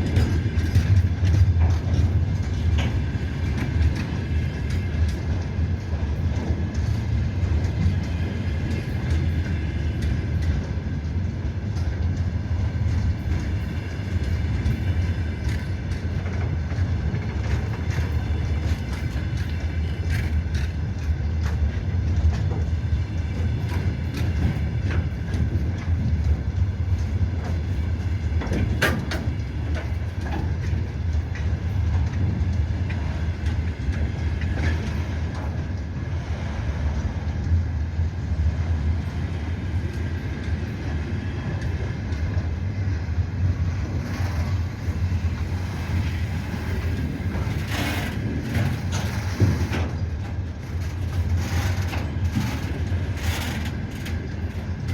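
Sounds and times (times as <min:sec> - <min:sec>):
train wagons rumbling: 0:00.0 - 0:54.9
wheel clicks on rail: 0:00.0 - 0:54.9.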